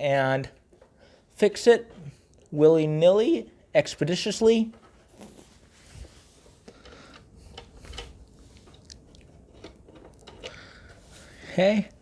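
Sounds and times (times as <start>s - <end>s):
light clicks and crinkles of handling: 0.4s - 12.0s.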